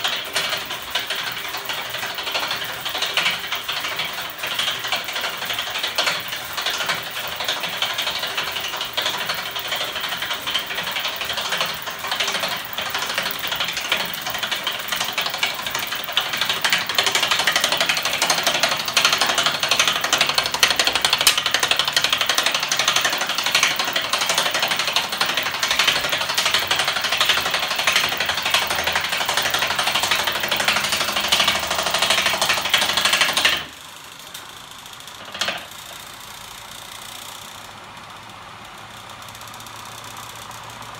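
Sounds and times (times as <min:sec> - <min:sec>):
machine metallic clatter: 0:00.0 - 0:40.9.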